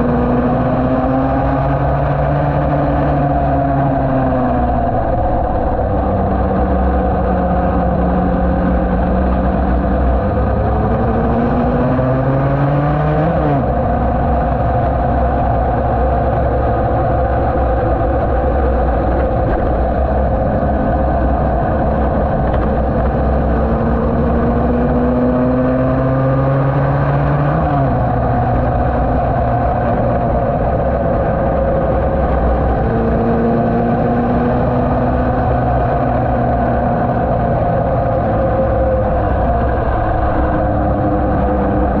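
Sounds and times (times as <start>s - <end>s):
racing motorcycle engine: 0.0s - 42.0s
wind rumble on microphone: 0.0s - 42.0s.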